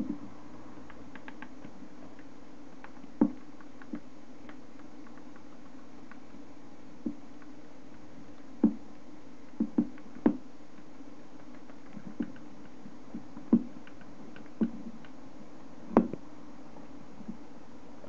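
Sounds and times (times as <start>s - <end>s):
steady low hum: 0.0s - 18.0s
hamster nibbling seeds: 0.1s - 16.1s.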